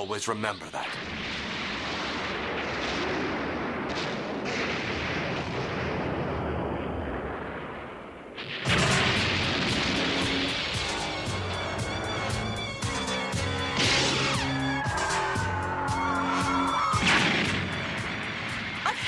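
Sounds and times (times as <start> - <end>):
rumbling explosion: 0.8 - 19.0
sudden explosion with crackling: 0.8 - 19.0.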